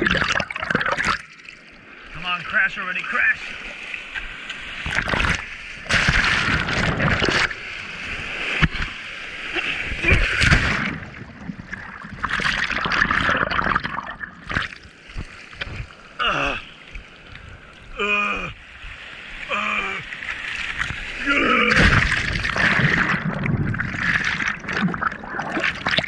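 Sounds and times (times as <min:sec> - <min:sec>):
sea water sloshing and splashing: 0:00.0 - 0:26.0.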